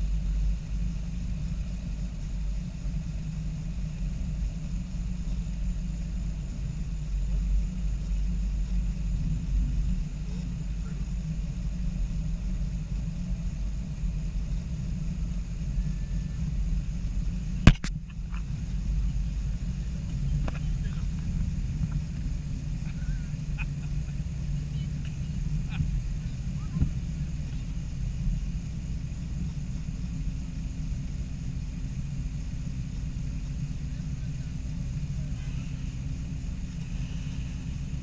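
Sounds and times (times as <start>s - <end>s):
low vehicle rumble: 0.0s - 38.0s.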